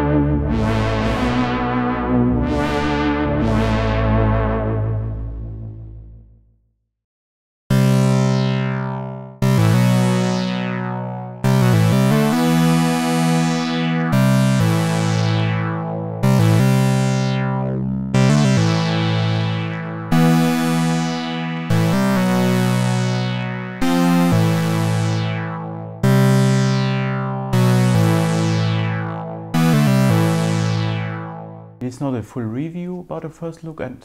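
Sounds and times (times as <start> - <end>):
synthesizer chords: 0.0 - 6.4, 7.7 - 31.9.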